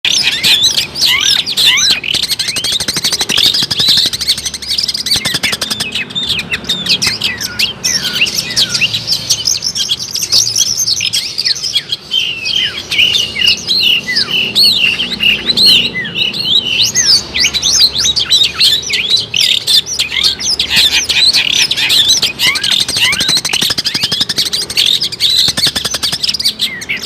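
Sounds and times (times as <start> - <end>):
bird chirping and whistling: 0.1 - 27.0.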